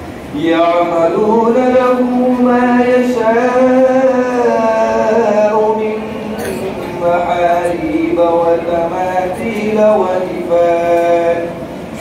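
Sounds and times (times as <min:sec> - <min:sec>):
person chanting recitation: 0:00.3 - 0:12.0.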